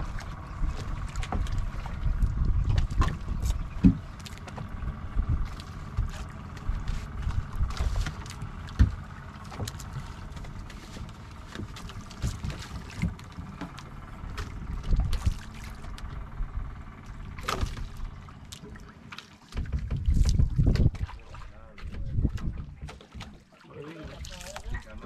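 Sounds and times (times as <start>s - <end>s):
knocks and clicks on boat: 0.0s - 25.0s
water lapping against boat hull: 0.0s - 25.0s.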